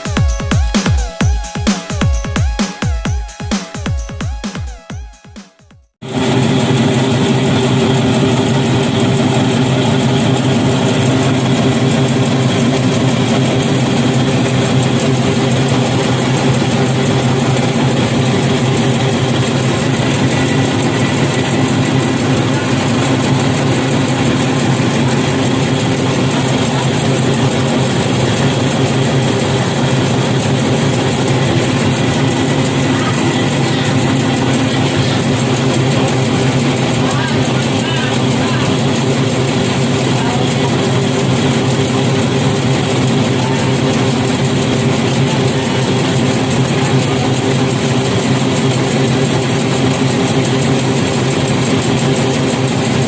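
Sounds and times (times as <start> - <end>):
machine motor humming and whirring: 6.0 - 53.0.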